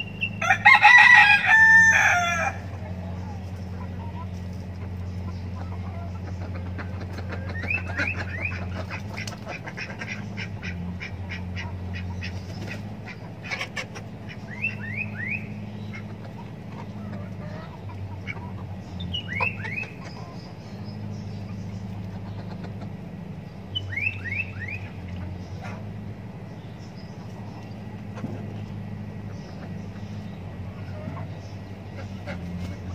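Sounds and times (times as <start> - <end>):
ducks calling: 0.0 - 32.9
steady low hum: 0.0 - 32.9.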